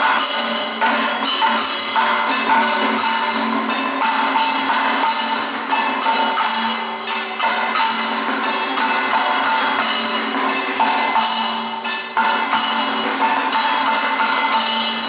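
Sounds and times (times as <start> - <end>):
ringing bells and metal percussion: 0.0 - 15.0.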